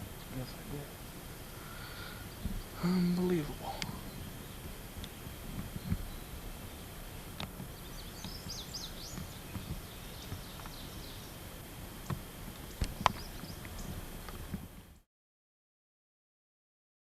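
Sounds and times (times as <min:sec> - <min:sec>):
bird chirping: 0:00.0 - 0:14.4
steady background hiss: 0:00.0 - 0:15.0.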